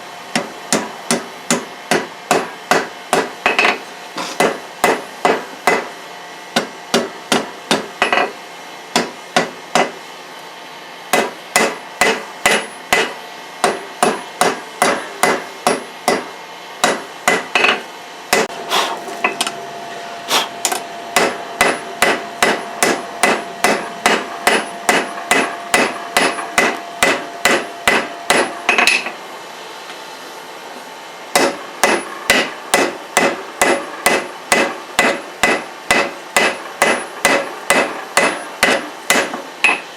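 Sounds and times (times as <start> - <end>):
hammer striking hot steel on anvil: 0.3 - 10.0, 11.1 - 19.6, 20.6 - 29.2, 31.3 - 39.9.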